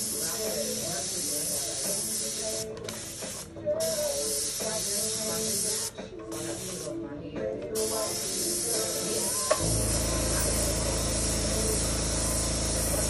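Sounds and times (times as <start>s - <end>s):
airbrush air hissing: 0.0s - 7.0s, 7.8s - 13.0s.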